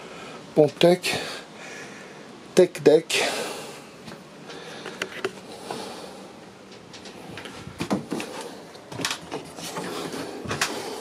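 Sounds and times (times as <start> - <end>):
steady hiss: 0.0 - 8.8.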